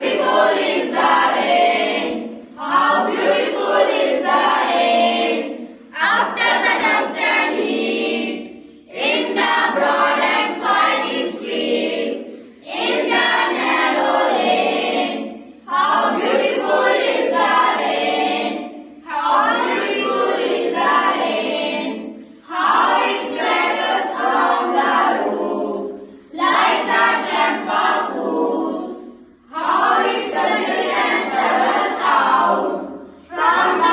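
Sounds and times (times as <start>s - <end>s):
children reciting in unison: 0.0s - 33.9s.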